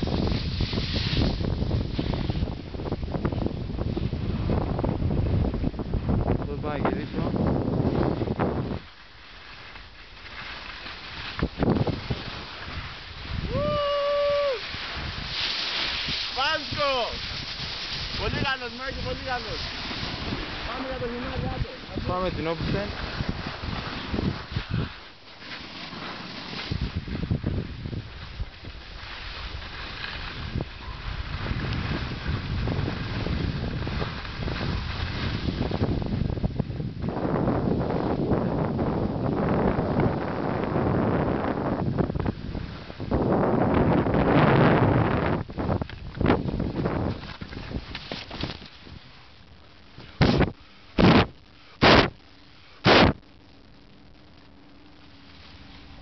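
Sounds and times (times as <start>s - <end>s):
wind buffeting microphone: 0.0s - 9.0s, 11.2s - 25.0s, 26.5s - 52.2s.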